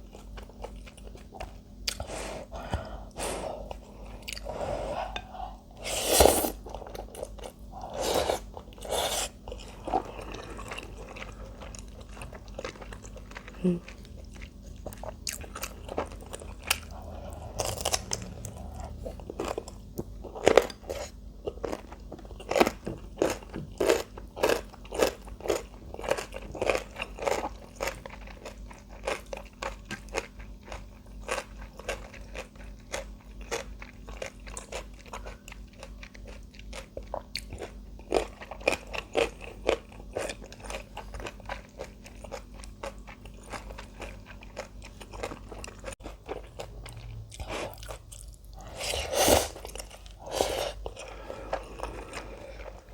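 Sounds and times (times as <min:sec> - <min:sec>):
crunchy chewing: 0:02.8 - 0:52.9.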